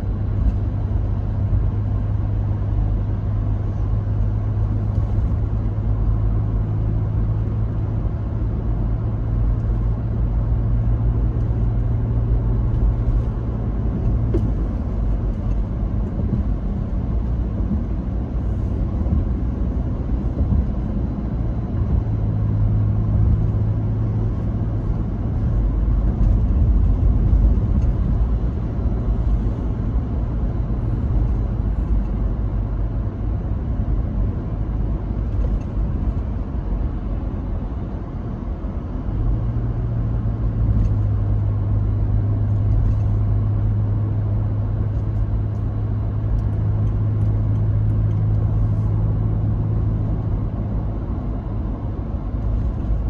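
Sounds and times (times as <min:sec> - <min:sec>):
engine and tyre rumble: 0:00.0 - 0:53.0.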